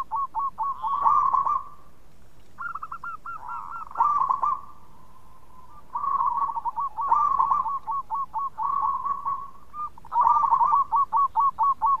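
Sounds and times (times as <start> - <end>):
dove cooing: 0.0 - 1.9, 2.6 - 12.0.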